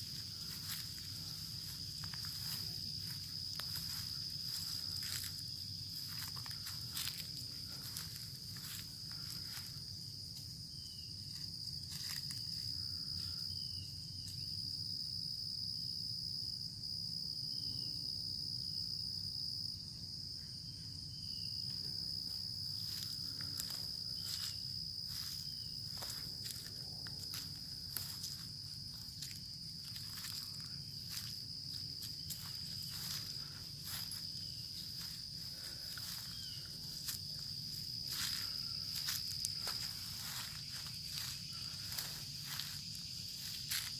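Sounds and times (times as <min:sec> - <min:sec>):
high-pitched insect trill: 0:00.0 - 0:43.9.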